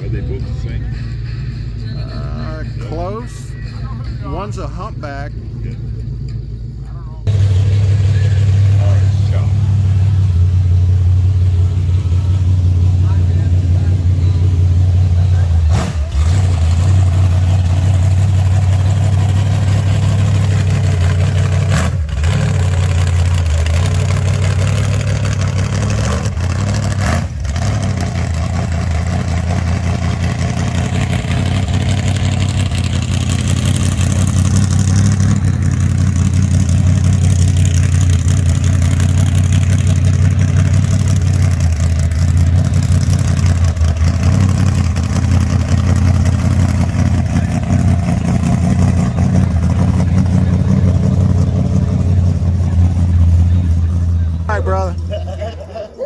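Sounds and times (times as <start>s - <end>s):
car engines rumbling: 0.0s - 56.0s.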